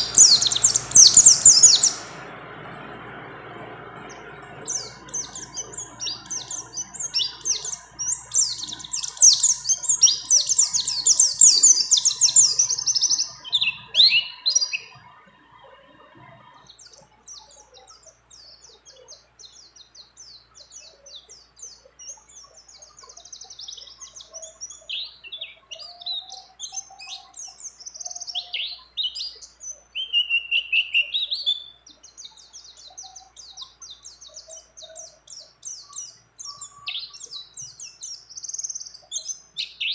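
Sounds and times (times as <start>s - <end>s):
bird singing high chirps and trills: 0.0s - 39.9s
faint steady hum: 0.0s - 39.9s.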